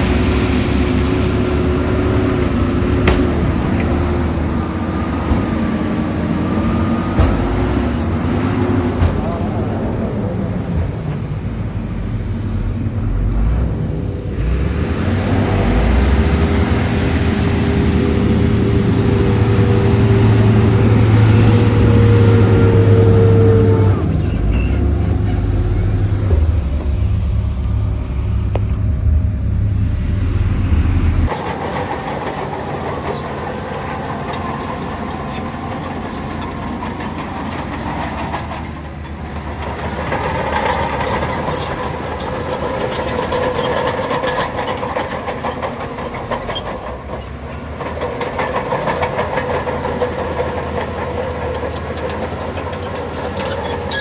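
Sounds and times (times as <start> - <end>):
steel tracks clattering: 0.0 - 29.7, 31.1 - 54.0
bulldozer engine working: 0.0 - 54.0
deep diesel rumble: 0.0 - 54.0.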